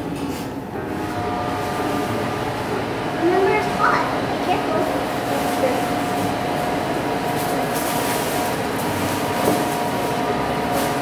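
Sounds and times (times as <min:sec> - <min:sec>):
appliance fan whirring: 0:00.0 - 0:11.0.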